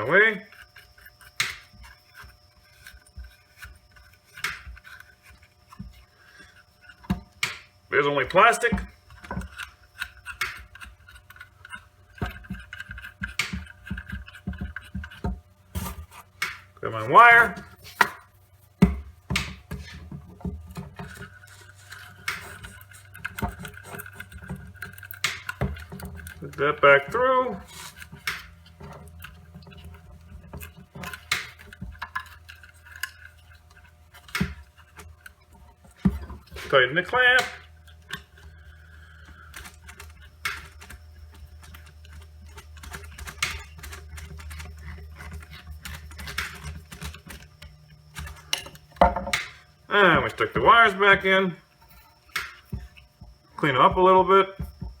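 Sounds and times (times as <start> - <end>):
steady low hum: 0.0 - 55.0
light clicks taps and scrapes: 0.4 - 55.0.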